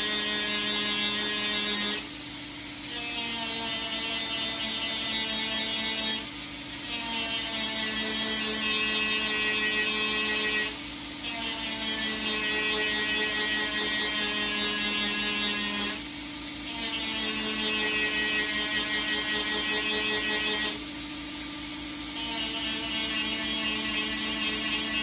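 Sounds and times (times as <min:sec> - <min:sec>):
power tool buzzing whine: 0:00.0 - 0:25.0.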